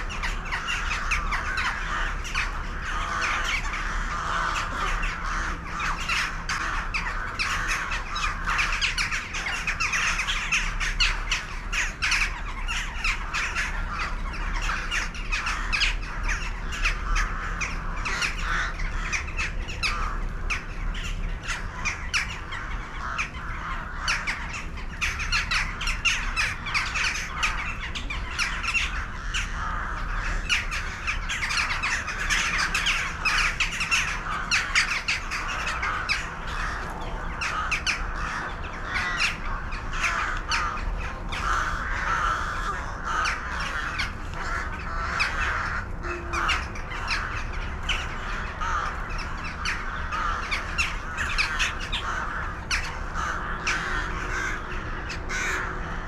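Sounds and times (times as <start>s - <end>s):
flock of birds calling: 0.0s - 56.0s.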